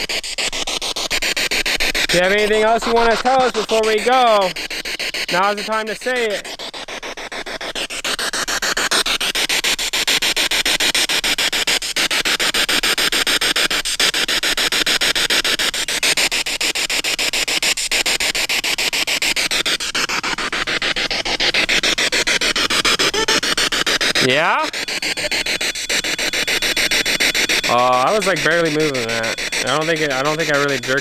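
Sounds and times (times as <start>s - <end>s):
pulsing radio static: 0.0s - 31.0s.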